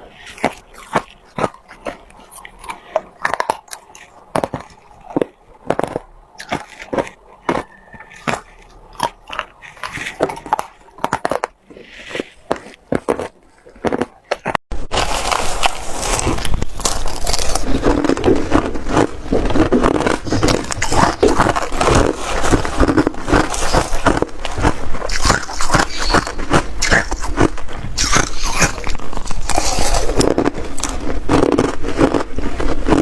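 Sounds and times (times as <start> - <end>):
ice crunching while chewed: 0.0 - 33.0.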